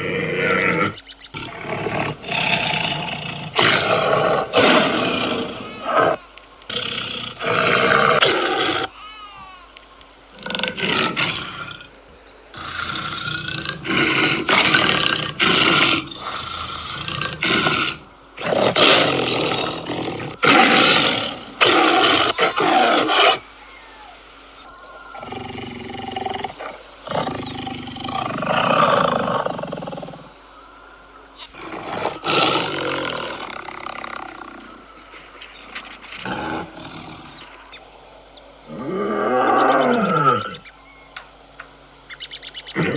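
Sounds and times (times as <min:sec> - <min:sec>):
tiger roaring: 0:00.0 - 0:09.0, 0:10.3 - 0:23.4, 0:25.1 - 0:30.3, 0:31.5 - 0:35.2, 0:36.1 - 0:37.6, 0:38.7 - 0:40.6.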